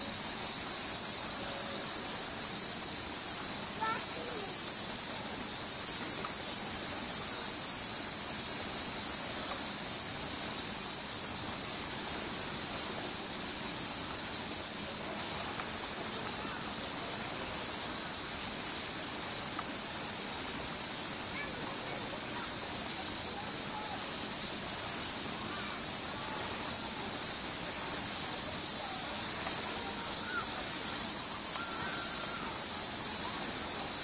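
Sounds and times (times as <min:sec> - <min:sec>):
cicadas shrilling: 0:00.0 - 0:34.0.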